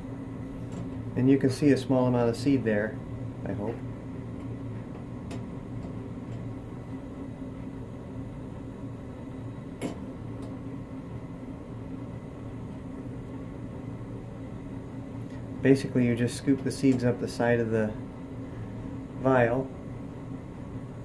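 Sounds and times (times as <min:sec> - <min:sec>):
fan humming: 0:00.0 - 0:21.0.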